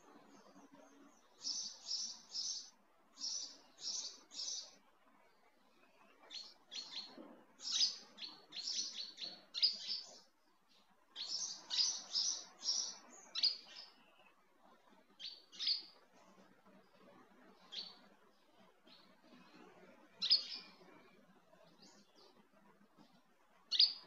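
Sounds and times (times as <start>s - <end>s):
bird chirping: 0.0s - 4.8s, 5.7s - 14.4s, 15.2s - 16.0s, 16.9s - 19.4s, 20.2s - 22.4s, 23.0s - 24.0s.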